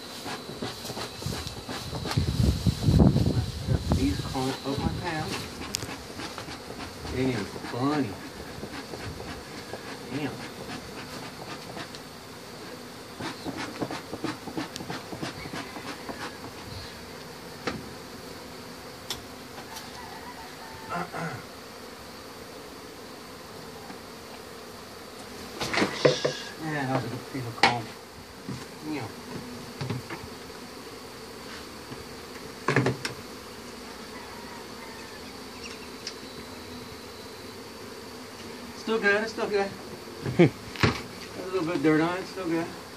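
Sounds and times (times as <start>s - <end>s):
honey bees buzzing: 0.0s - 42.9s.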